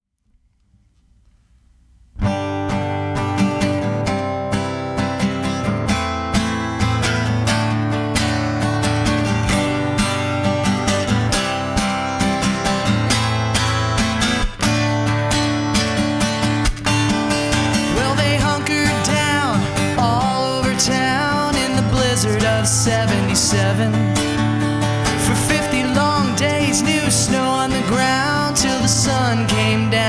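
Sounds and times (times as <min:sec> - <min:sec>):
strummed acoustic guitar: 0:02.2 - 0:30.0.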